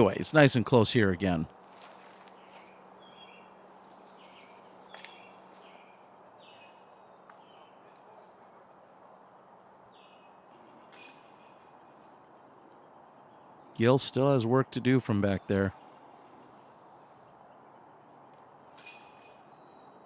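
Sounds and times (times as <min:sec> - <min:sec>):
insect whine: 0:00.0 - 0:20.0
bird chirping: 0:01.8 - 0:20.0.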